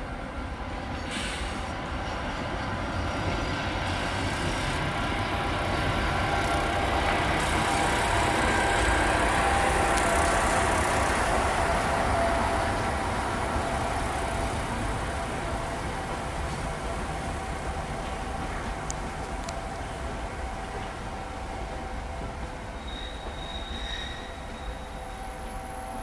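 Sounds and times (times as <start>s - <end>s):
train engine idling: 1.0s - 23.4s.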